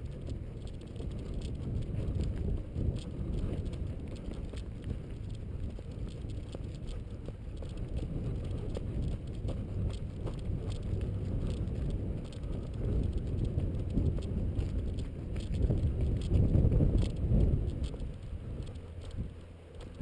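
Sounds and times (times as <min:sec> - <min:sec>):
footsteps jogging on gravel: 0:00.0 - 0:20.0
wind rumble on microphone: 0:00.0 - 0:20.0.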